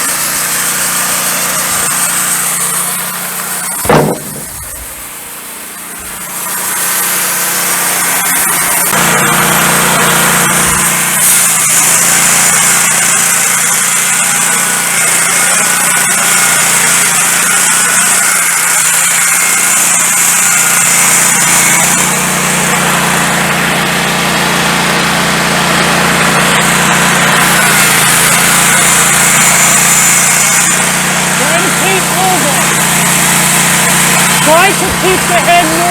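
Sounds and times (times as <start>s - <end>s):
band blade cutting log: 0.0s - 9.0s, 10.6s - 35.9s
sawmill engine humming: 0.0s - 35.9s.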